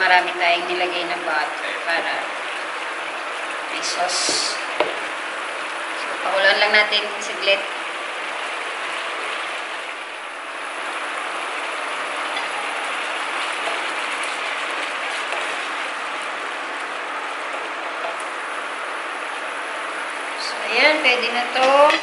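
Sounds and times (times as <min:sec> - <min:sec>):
sauce bubbling and sizzling: 0:01.8 - 0:22.0.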